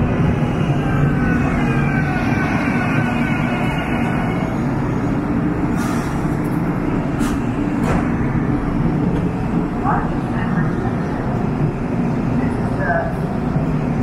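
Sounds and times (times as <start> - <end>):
light rail train slowing: 0.0 - 14.0.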